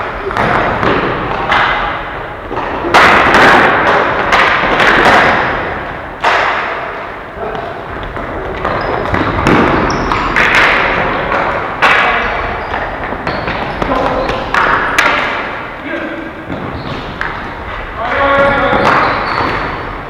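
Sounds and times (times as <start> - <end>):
ball and sticks knocking boards: 0.0 - 15.8, 16.4 - 20.0.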